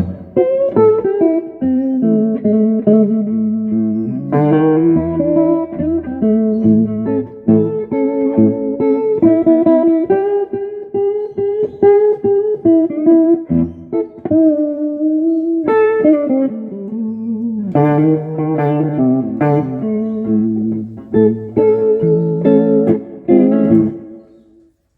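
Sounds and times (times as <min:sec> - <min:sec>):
electric guitar playing: 0:00.0 - 0:24.9.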